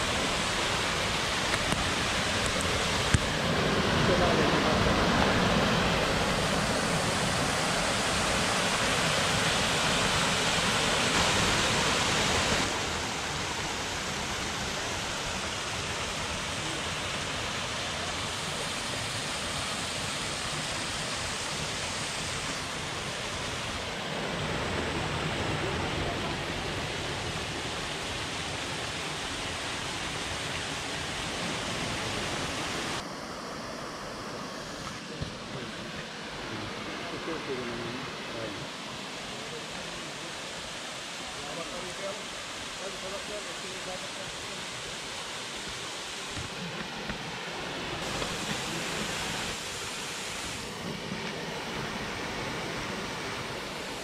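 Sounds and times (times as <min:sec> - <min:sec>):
waterfall pouring into pool: 0:00.0 - 0:33.0, 0:36.5 - 0:54.0.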